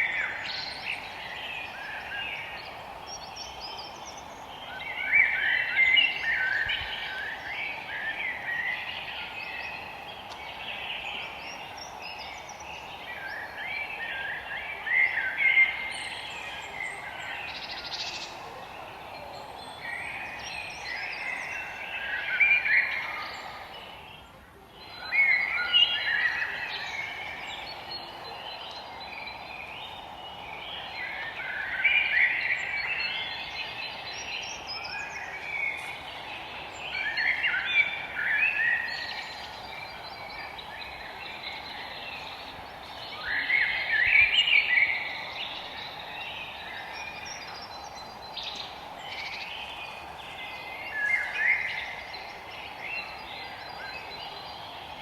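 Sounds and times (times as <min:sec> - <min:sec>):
songbirds singing: 0:00.0 - 0:55.0
steady background hiss: 0:00.0 - 0:55.0.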